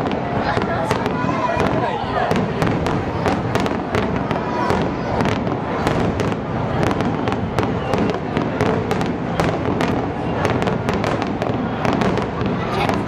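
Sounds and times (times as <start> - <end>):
fireworks bangs: 0.0 - 13.0
fireworks rumble: 0.0 - 13.0.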